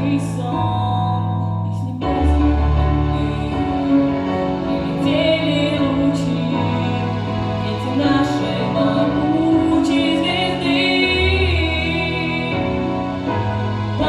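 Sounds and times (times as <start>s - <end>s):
slow music: 0.0s - 14.0s.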